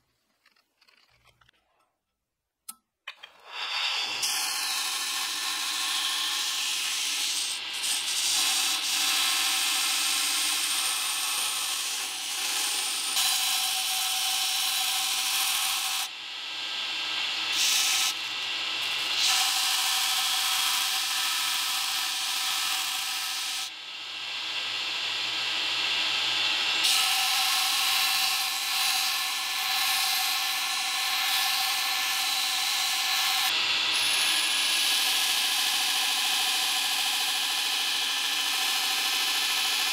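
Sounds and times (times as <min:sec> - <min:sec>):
belt grinder grinding steel: 0:03.2 - 0:16.1, 0:16.8 - 0:23.7, 0:24.3 - 0:39.9.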